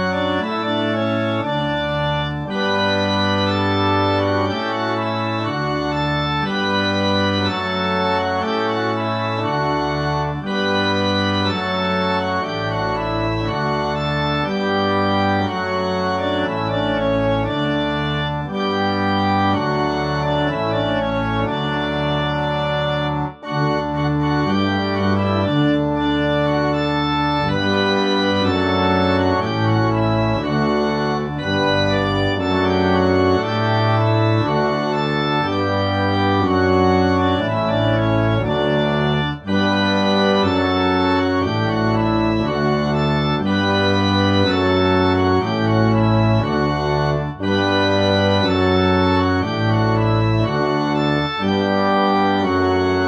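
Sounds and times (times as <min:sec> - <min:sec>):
organ playing sustained chords: 0:00.0 - 0:53.0.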